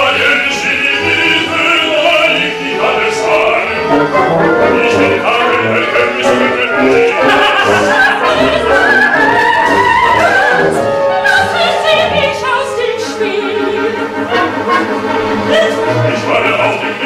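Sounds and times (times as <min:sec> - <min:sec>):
chamber orchestra of strings and winds: 0:00.0 - 0:17.0
operatic solo singing: 0:00.0 - 0:17.0.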